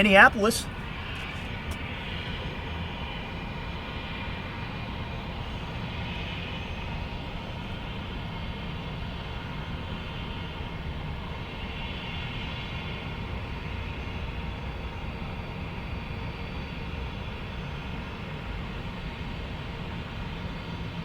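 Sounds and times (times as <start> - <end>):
jet engines at takeoff power: 0.0 - 21.0.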